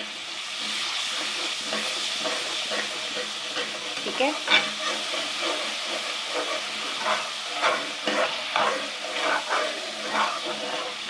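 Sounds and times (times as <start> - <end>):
masala sizzling in hot oil: 0.0 - 11.0
spoon scraping and stirring: 0.6 - 11.0.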